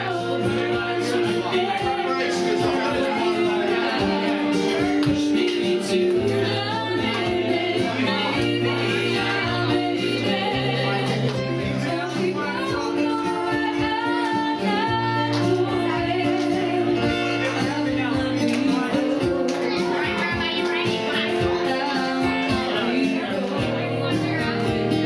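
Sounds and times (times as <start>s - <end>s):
acoustic guitar: 0.0s - 25.0s
woman singing: 0.0s - 25.0s.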